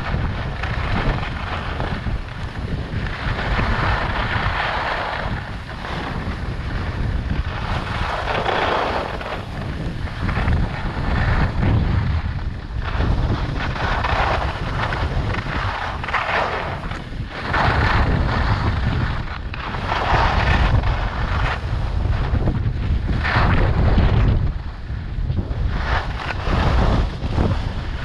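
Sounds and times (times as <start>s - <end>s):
ski edges scraping snow: 0.0s - 24.4s, 25.4s - 28.0s
wind rumbling on microphone: 0.0s - 28.0s.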